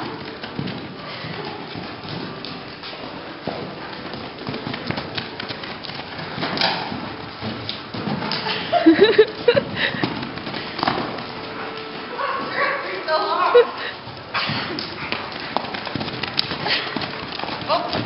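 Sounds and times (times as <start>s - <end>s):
hooves thudding on sand: 0.0s - 18.0s.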